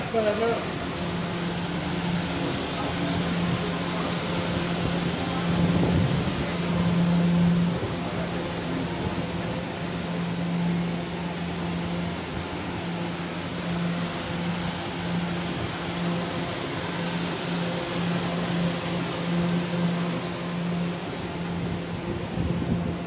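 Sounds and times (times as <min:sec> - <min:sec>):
steady rushing noise: 0:00.0 - 0:23.0
subway train hum: 0:00.0 - 0:23.0.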